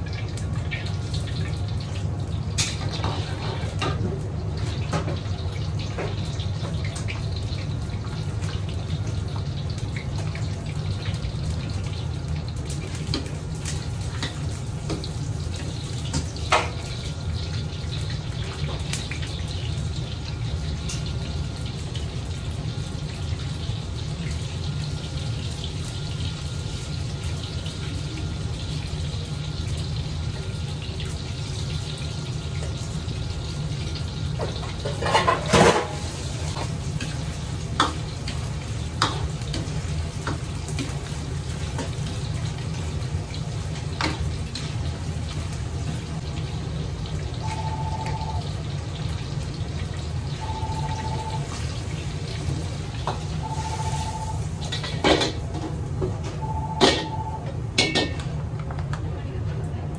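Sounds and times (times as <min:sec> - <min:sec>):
gas wok range roaring: 0:00.0 - 0:59.9.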